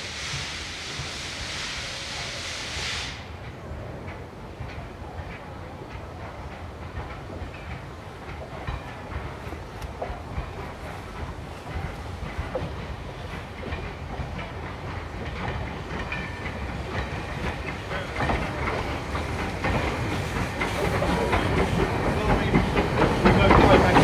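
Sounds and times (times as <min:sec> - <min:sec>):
steam train passing: 0:00.0 - 0:24.0
wheels clicking over rail joints: 0:03.4 - 0:24.0.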